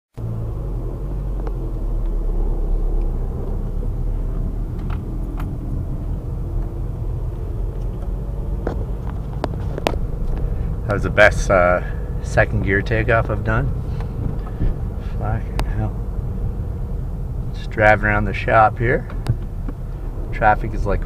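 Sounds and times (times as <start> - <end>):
van engine droning: 0.1 - 21.0.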